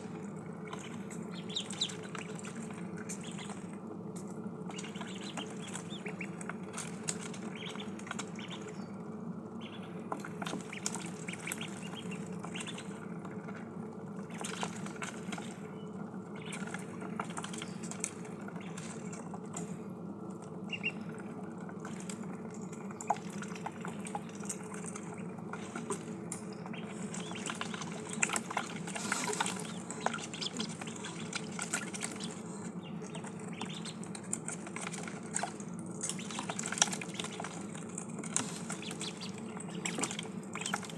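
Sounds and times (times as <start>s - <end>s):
ducklings splashing in water: 0.0s - 40.9s
steady low hum: 0.0s - 40.9s.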